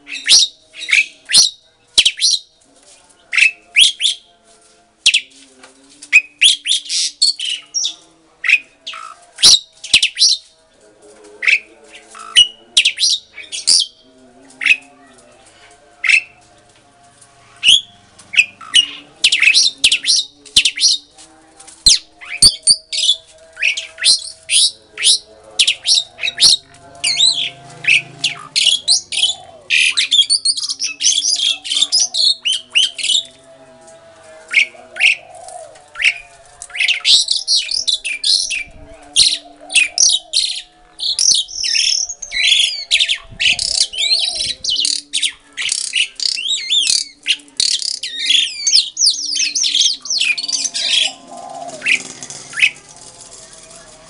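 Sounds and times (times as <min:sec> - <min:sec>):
starlings singing and chattering: 0:00.0 - 0:54.0.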